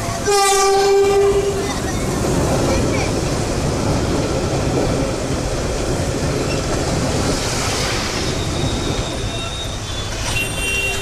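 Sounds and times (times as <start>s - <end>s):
train passing close: 0.0s - 11.0s.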